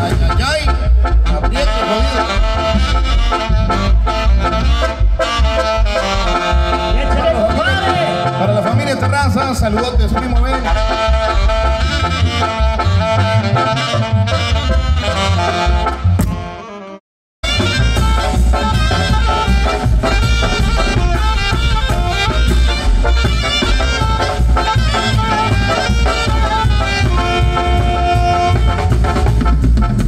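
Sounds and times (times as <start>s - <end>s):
heavy bass drum beat: 0.0s - 13.4s, 17.4s - 30.0s
brass band dance music: 0.0s - 30.0s.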